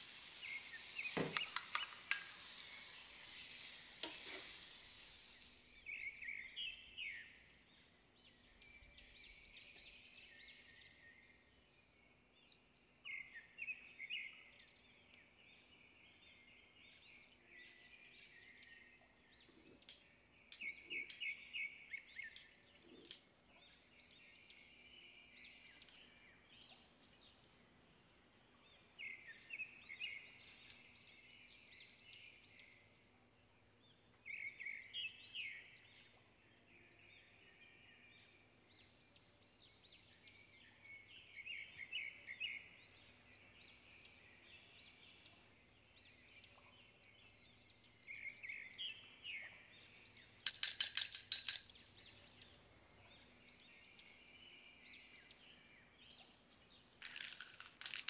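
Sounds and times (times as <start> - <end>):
faint bird chirping: 0.0 - 57.2.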